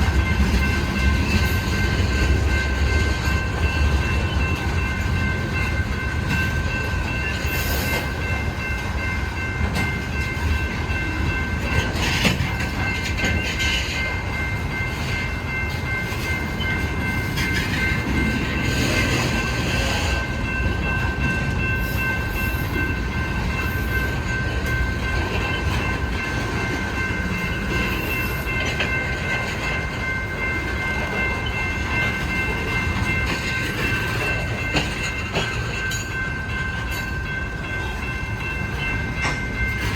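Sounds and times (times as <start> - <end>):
freight train cars rumbling: 0.0 - 39.9
train clanks and knocks: 0.0 - 39.9.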